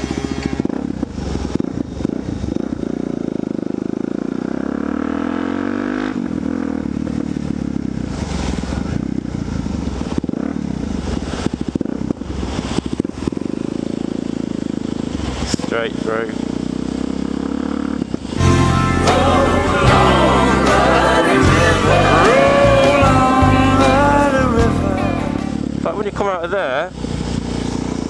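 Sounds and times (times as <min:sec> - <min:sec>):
motorcycle engine running: 0:00.0 - 0:18.9, 0:19.9 - 0:28.0.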